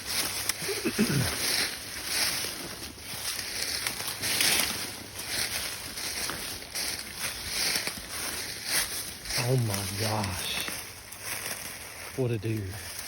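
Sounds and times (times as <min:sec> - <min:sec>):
footsteps through dry leaves: 0:00.0 - 0:13.0.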